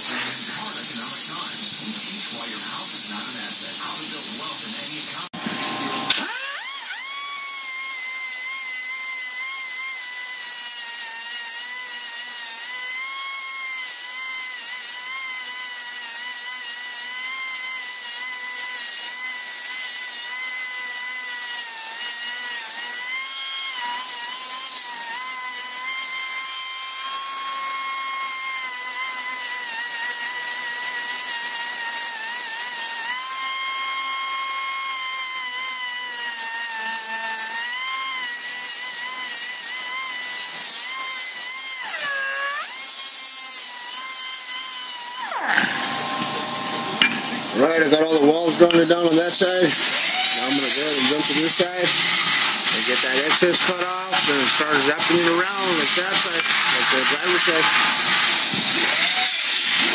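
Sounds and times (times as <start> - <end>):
angle grinder grinding metal: 0.0 - 59.9.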